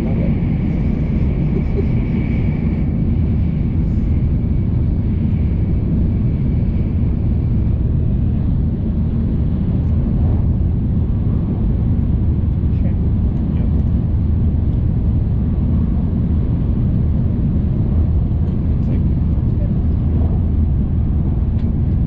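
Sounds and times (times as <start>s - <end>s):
train cabin rumble: 0.0s - 22.0s.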